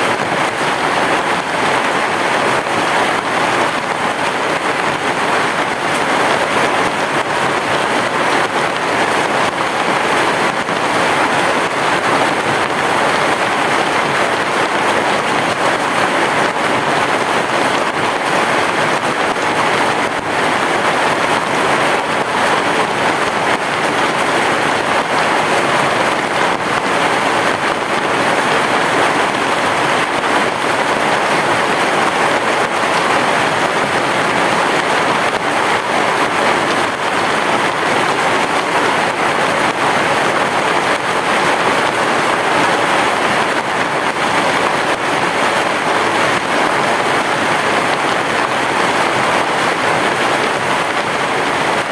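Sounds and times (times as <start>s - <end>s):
heavy rain on a roof: 0.0s - 51.9s.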